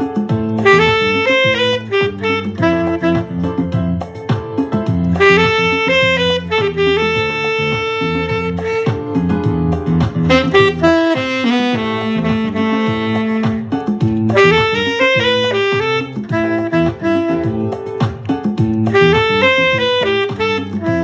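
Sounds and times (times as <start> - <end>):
bass line accompaniment: 0.0 - 21.0
alto saxophone melody: 0.3 - 21.0.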